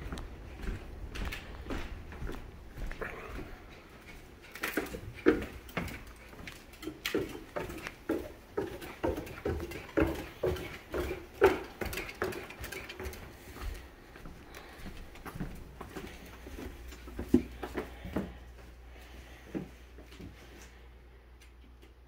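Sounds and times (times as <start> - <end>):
footsteps on wooden floor: 0.0 - 20.7.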